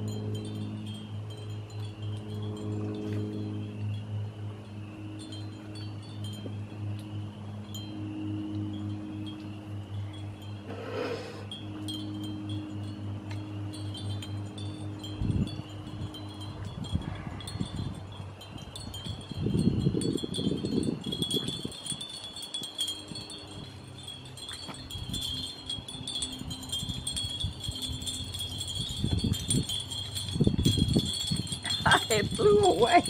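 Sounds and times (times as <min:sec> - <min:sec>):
wind chimes ringing: 0:00.0 - 0:33.0.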